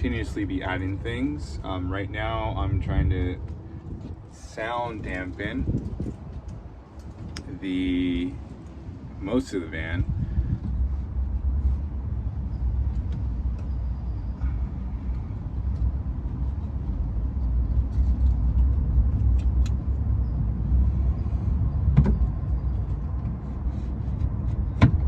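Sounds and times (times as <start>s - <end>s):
low vehicle rumble: 0.0s - 25.0s.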